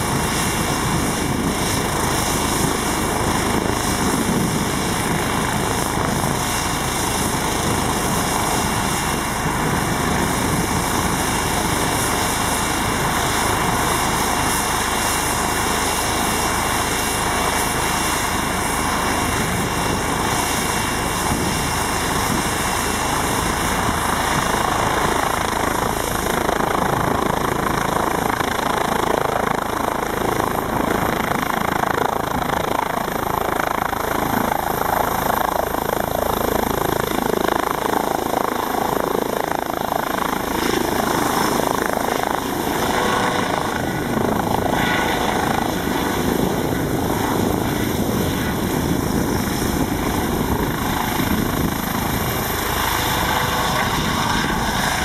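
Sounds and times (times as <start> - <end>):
helicopter rotor noise: 0.0 - 55.0
high turbine whine: 0.0 - 55.0.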